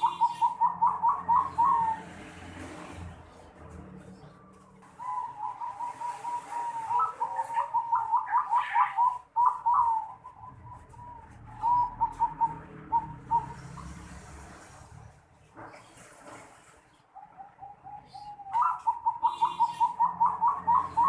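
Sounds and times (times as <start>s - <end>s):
dove cooing: 0.0s - 3.0s, 3.6s - 14.8s, 17.2s - 21.0s.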